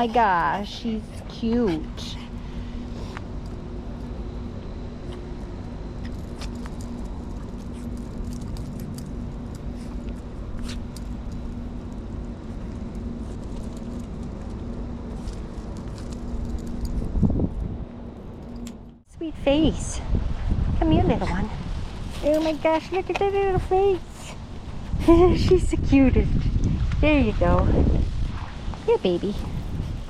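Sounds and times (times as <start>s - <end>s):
low rumble: 0.0s - 30.0s
mechanical hum: 0.0s - 30.0s.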